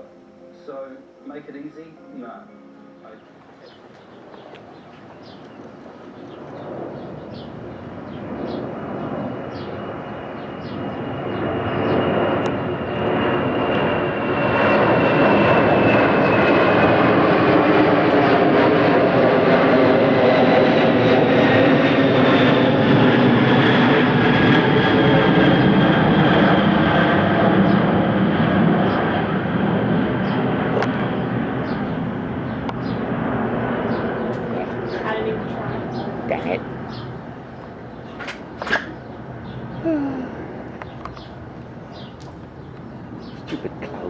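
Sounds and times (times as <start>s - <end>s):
airliner flying overhead: 0.0s - 44.0s
high engine whine: 0.0s - 44.0s.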